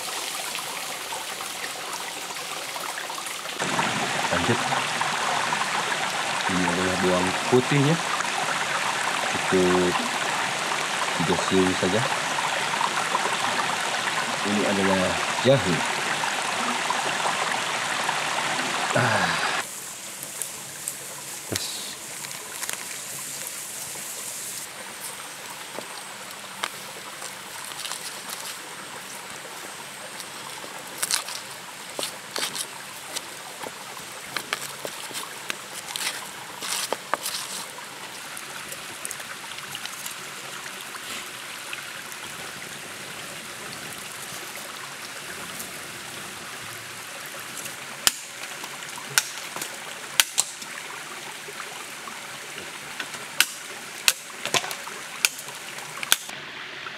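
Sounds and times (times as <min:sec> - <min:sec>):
stream running: 0:00.0 - 0:56.9.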